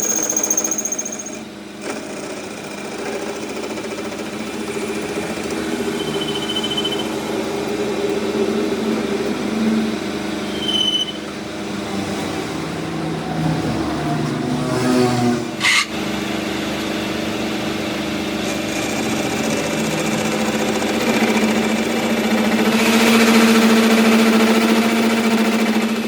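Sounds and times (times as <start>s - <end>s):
workshop machine humming: 0.0s - 26.0s.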